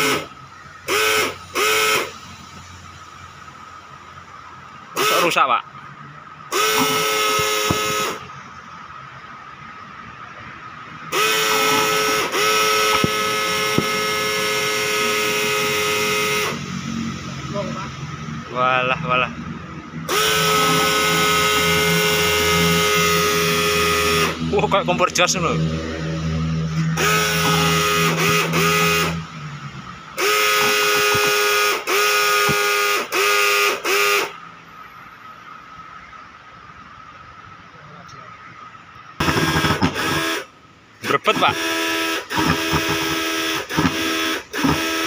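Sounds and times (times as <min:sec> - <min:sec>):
fogging machine loud drone: 0:06.4 - 0:36.4, 0:38.4 - 0:45.0.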